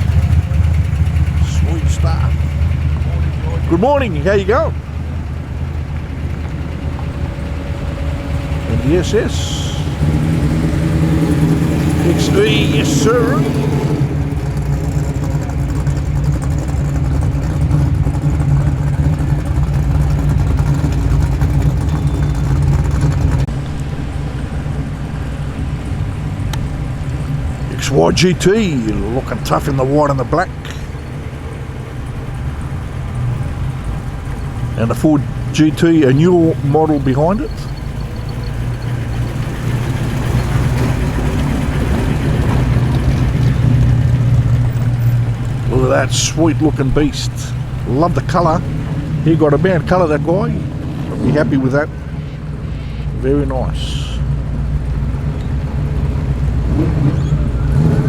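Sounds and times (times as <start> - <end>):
car engine running low: 0.0 - 58.0.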